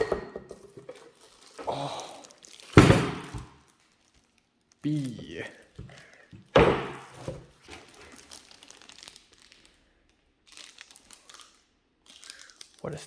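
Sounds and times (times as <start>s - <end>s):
packing material crinkling: 0.8s - 6.4s, 7.0s - 13.0s.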